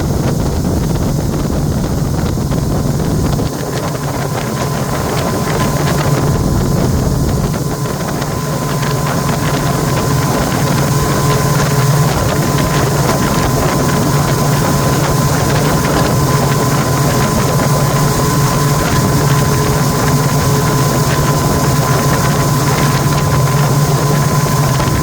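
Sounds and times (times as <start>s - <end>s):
boat motor running: 0.0s - 25.0s
thin steady whine: 0.0s - 25.0s
wind on microphone: 0.0s - 25.0s.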